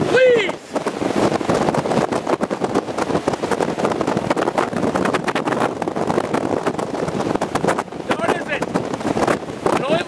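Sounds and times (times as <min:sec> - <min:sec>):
violent wind buffeting microphone: 0:00.0 - 0:10.0.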